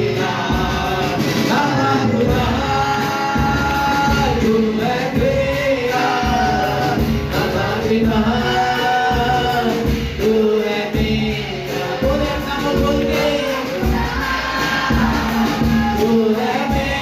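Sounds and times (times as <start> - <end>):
man and choir singing worship song: 0.0 - 17.0.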